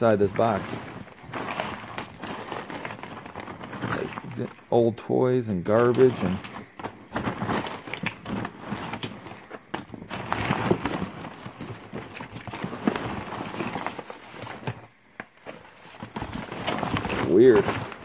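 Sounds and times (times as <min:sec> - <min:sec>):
paper rustling and crinkling: 0:00.0 - 0:04.7, 0:05.6 - 0:18.0.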